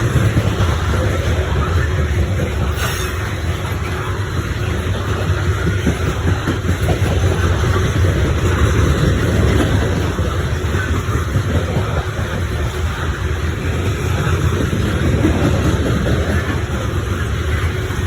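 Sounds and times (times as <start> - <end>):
train cars rumbling past: 0.0 - 18.0
wheels clattering on rail: 0.0 - 18.0.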